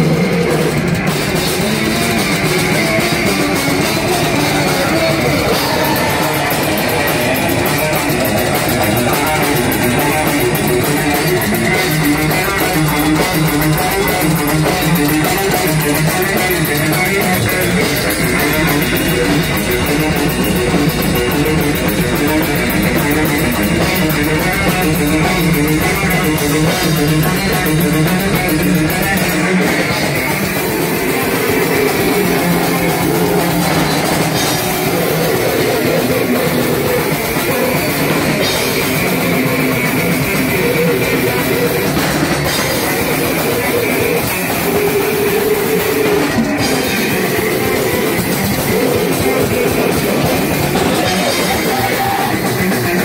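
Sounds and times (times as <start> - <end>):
fast drumming: 0.0 - 53.0
metal band playing: 0.0 - 53.0.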